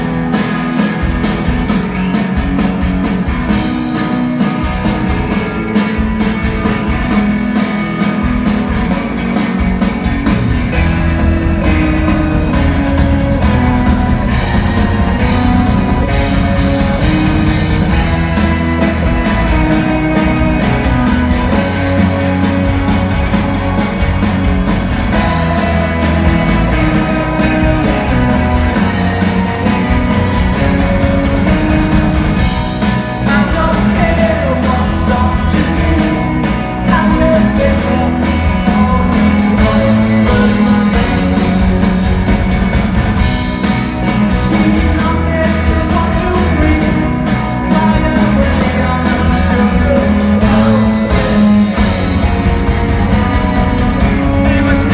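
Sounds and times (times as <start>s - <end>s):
drum kit steady beat: 0.0s - 54.9s
electric guitar: 0.0s - 54.9s.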